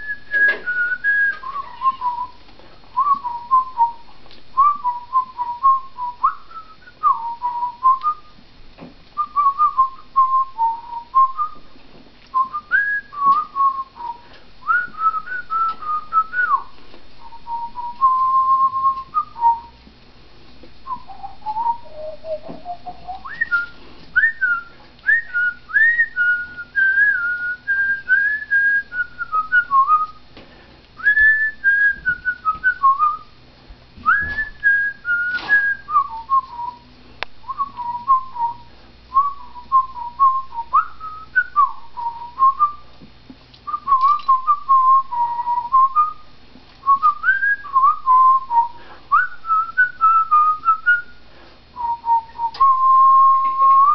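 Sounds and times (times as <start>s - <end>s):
person whistling a tune: 0.0s - 2.4s, 3.0s - 4.0s, 4.6s - 8.4s, 9.2s - 11.7s, 12.3s - 19.8s, 20.9s - 30.2s, 31.0s - 33.3s, 34.0s - 36.8s, 37.5s - 42.8s, 43.7s - 46.2s, 46.8s - 51.2s, 51.8s - 53.9s.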